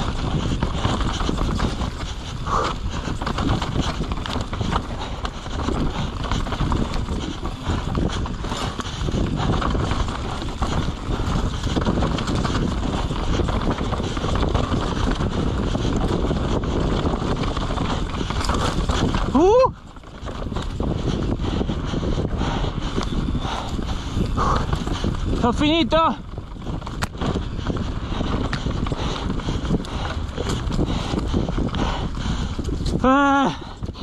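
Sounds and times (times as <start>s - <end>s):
mountain bike rattling on trail: 0.0s - 34.0s
wind buffeting microphone: 0.0s - 34.0s.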